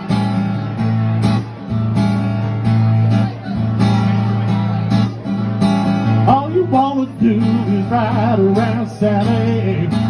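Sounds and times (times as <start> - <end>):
strummed guitar riff: 0.0 - 10.0.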